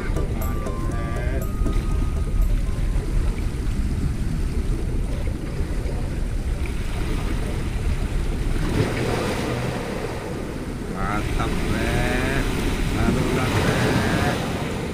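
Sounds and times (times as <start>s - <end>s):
sea and wind rumble: 0.0s - 14.9s
waves washing against rocks: 1.4s - 14.9s.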